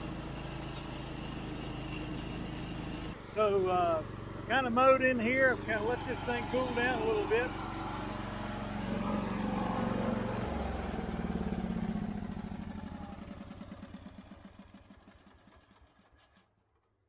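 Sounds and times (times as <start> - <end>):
small engine running: 0.0 - 16.5.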